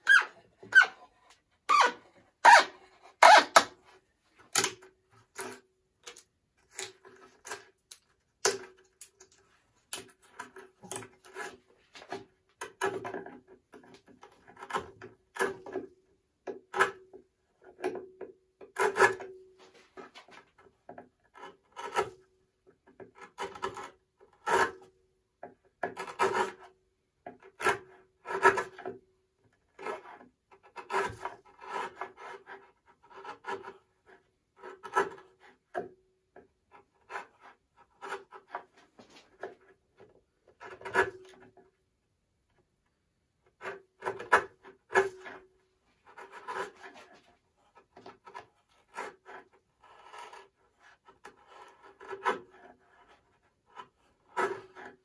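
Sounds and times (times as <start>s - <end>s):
chisel scraping wood: 0.0s - 15.9s, 16.5s - 25.0s, 25.6s - 41.6s, 43.5s - 55.0s.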